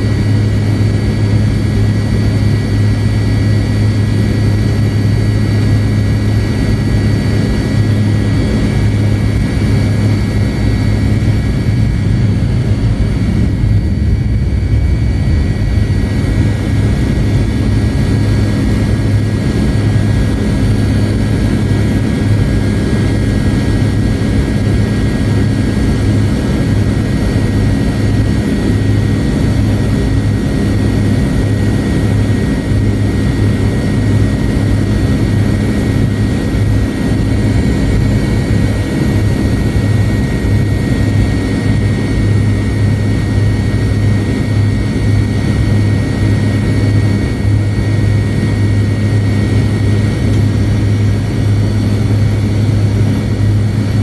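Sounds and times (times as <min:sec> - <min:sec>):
high engine whine: 0:00.0 - 0:54.0
low engine hum: 0:00.0 - 0:54.0.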